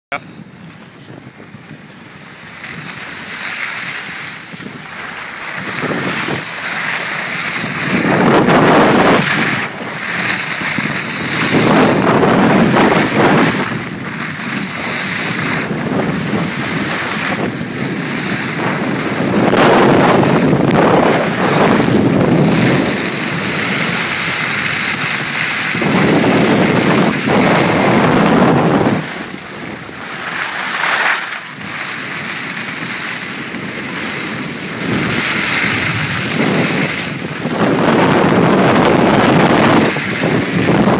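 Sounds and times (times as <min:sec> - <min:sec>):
wind buffeting microphone: 0:00.1 - 0:40.9
skis hissing on snow: 0:02.4 - 0:40.9.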